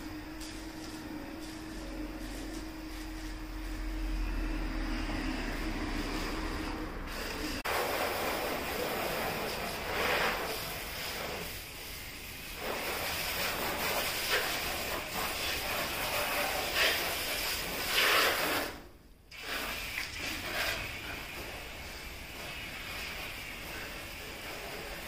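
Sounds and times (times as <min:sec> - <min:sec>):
hose spraying water on car: 0:00.0 - 0:25.0.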